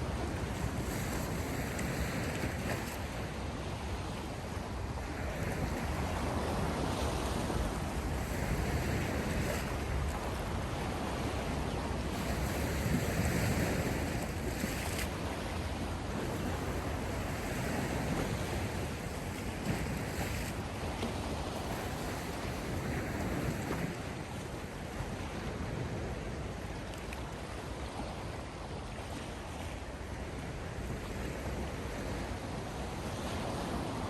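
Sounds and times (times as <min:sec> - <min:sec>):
sea waves washing ashore: 0:00.0 - 0:34.0
wind rumbling on microphone: 0:00.0 - 0:34.0.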